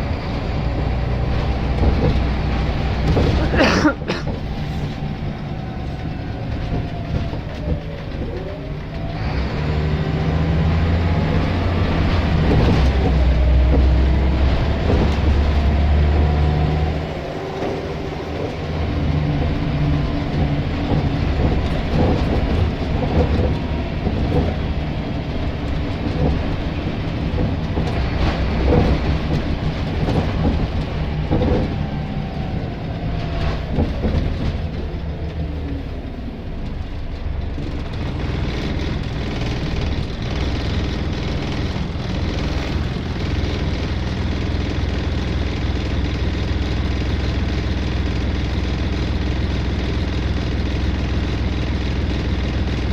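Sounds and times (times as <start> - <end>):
bus diesel engine rattling: 0.0 - 52.9.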